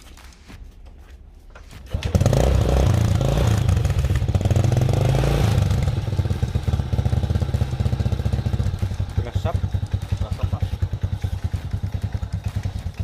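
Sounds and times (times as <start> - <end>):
motorcycle engine starting and idling: 1.6 - 13.0.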